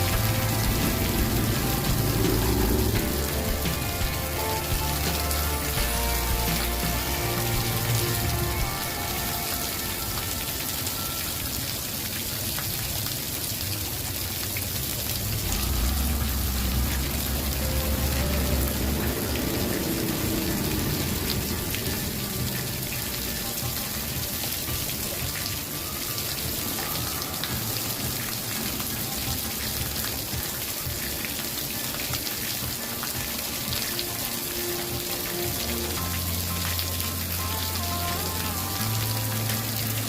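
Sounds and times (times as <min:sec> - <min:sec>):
rain hissing: 0:00.0 - 0:40.0.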